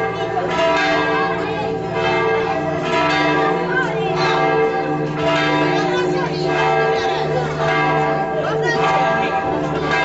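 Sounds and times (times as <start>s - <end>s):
church bells ringing: 0.0s - 10.0s
crowd voices: 0.0s - 10.0s.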